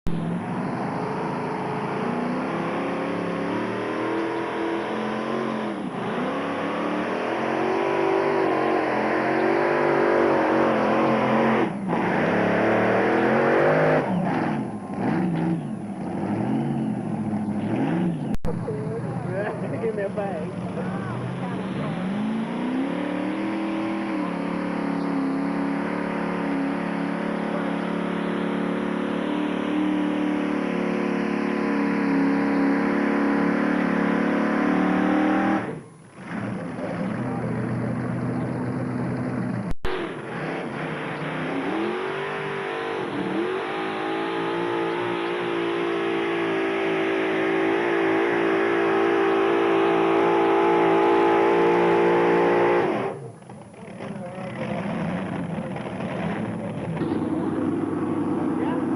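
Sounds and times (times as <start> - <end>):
tractor engine revving: 0.0 - 58.9.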